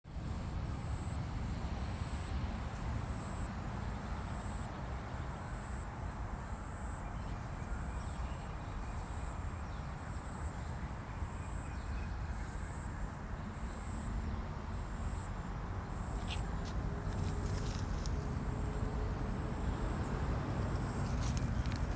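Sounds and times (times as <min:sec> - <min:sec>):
insect chirping: 0:00.2 - 0:21.9
insect high-pitched drone: 0:00.2 - 0:21.9.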